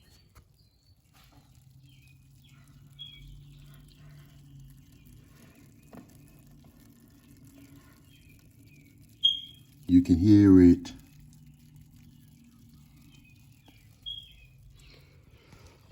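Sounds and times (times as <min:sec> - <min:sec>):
fermenting liquid fizzing and popping: 0:00.0 - 0:15.9.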